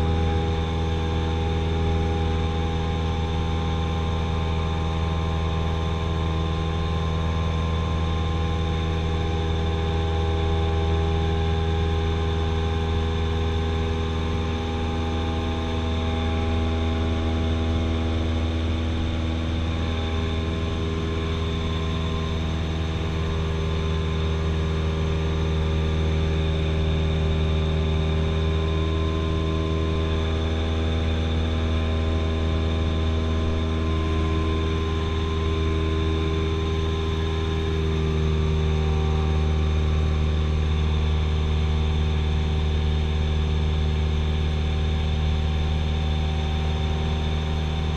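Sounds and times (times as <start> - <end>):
small plane engine droning: 0.0 - 47.9.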